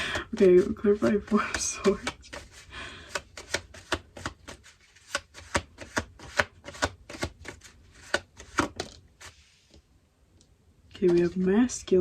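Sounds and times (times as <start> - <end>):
cards being shuffled: 0.2 - 9.8, 10.9 - 11.9.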